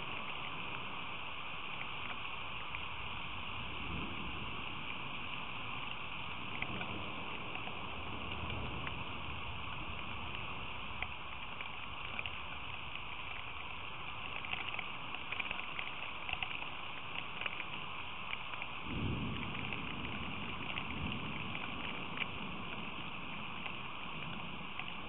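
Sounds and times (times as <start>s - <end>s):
rain hiss: 0.0s - 25.0s
raindrops ticking on microphone: 0.0s - 25.0s.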